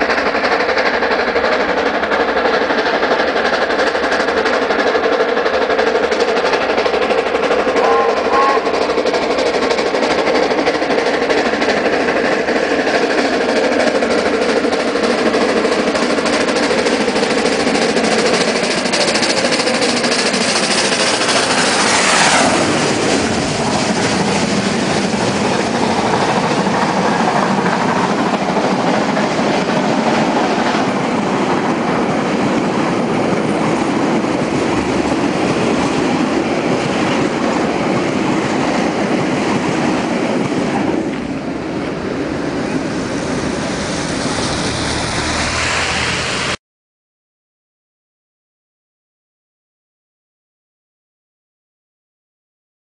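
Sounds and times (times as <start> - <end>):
steam locomotive working hard: 0.0 - 46.6
train wheels clickety-clack: 0.0 - 46.6.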